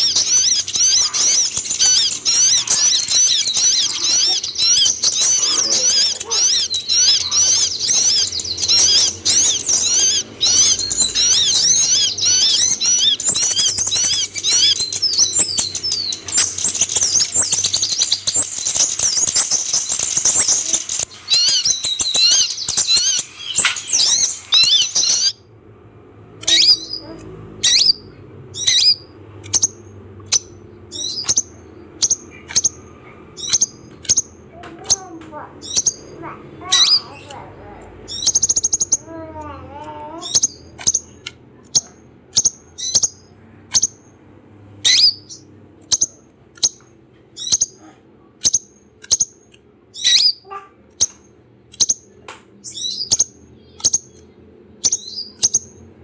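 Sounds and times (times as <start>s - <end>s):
bird twittering: 0.0s - 25.5s, 26.3s - 44.2s, 44.8s - 56.0s
sharp high bird chirps: 0.0s - 25.5s, 26.4s - 39.5s, 40.2s - 44.2s, 44.8s - 47.8s, 48.4s - 55.9s.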